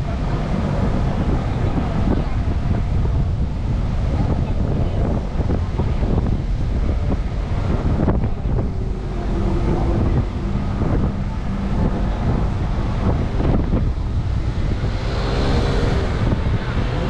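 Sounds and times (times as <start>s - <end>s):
faint low hum: 0.0s - 17.0s
wind buffeting microphone: 0.0s - 17.0s.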